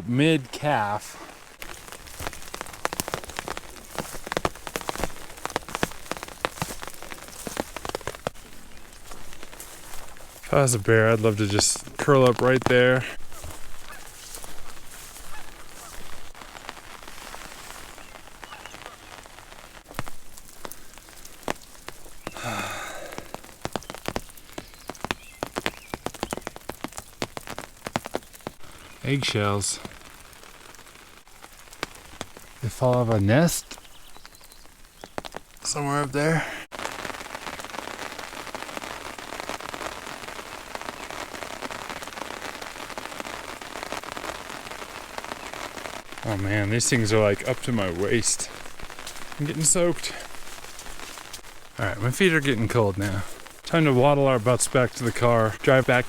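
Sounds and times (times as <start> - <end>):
light rain: 0.0 - 56.0
raindrops tapping: 0.0 - 56.0.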